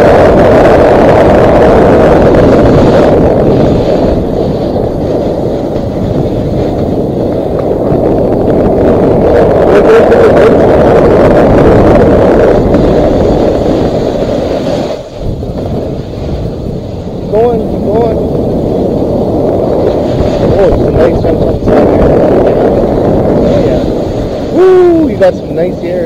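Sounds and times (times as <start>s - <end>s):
snowboard scraping over snow: 0.0s - 26.0s
wind rushing on microphone: 0.0s - 26.0s.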